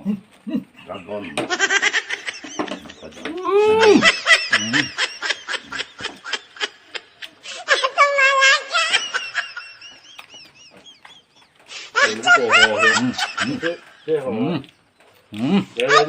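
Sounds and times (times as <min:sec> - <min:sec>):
breathy snickering laughter: 0:00.1 - 0:14.1
high squealing laugh: 0:00.4 - 0:14.1, 0:15.4 - 0:16.0.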